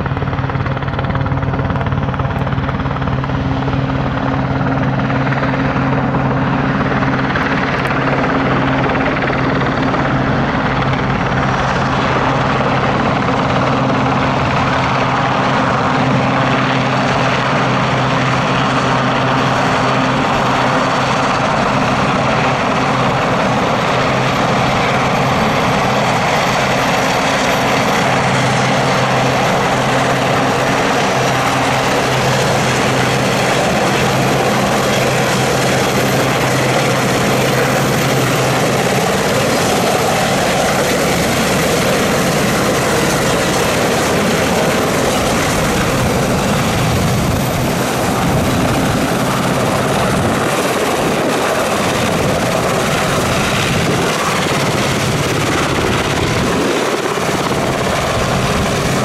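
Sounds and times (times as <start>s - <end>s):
helicopter flying low: 0.0s - 59.0s.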